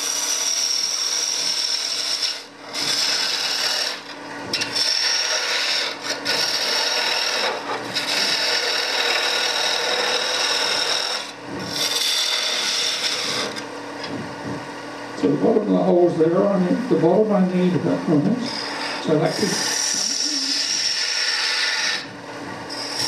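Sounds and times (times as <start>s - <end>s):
gouge scraping spinning wood on lathe: 0.0s - 14.2s, 15.2s - 23.0s.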